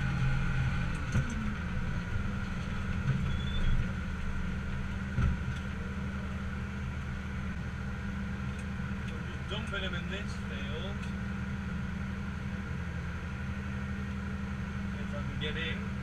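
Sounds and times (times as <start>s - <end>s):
faint steady whine: 0.0s - 16.0s
tractor engine droning: 0.0s - 16.0s.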